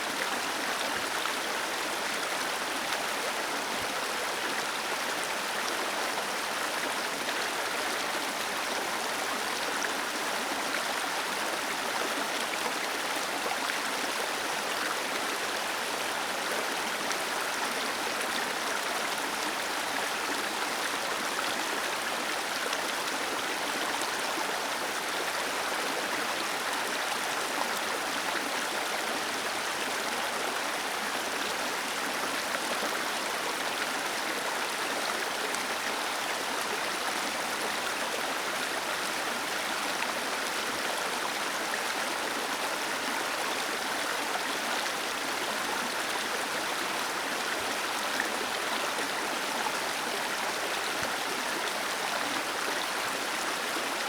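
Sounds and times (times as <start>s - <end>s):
small waterfall rushing: 0.0s - 54.0s.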